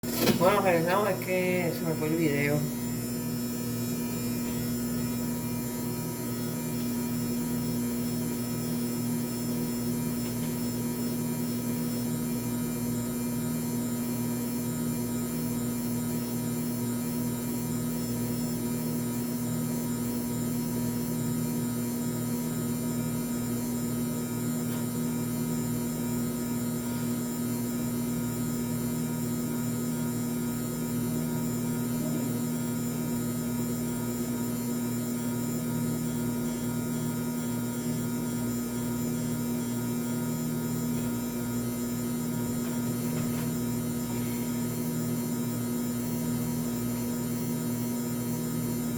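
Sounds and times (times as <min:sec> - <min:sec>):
washing machine motor humming: 0:00.0 - 0:48.9.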